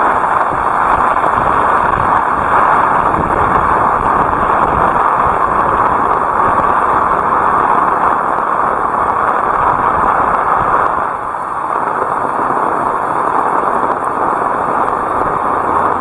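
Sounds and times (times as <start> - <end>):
heavy rain pouring: 0.0 - 16.0
wind buffeting microphone: 0.0 - 16.0.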